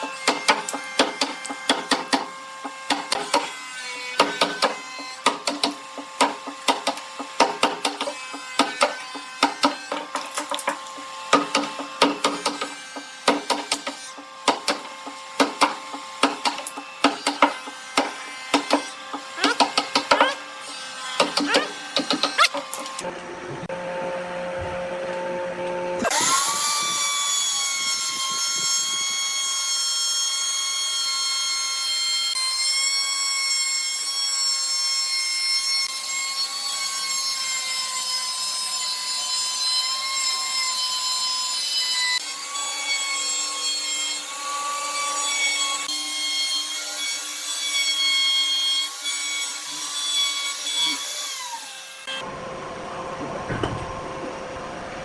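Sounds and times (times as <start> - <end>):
power tool whining on wood: 0.0 - 23.2, 23.9 - 52.3.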